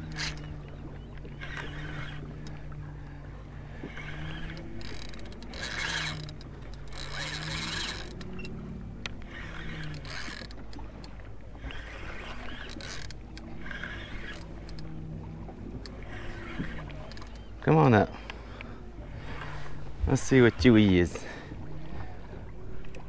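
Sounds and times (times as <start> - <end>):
fishing reel whirring: 0.0 - 18.2, 19.0 - 23.0
low rumble of wind and water: 0.0 - 23.0.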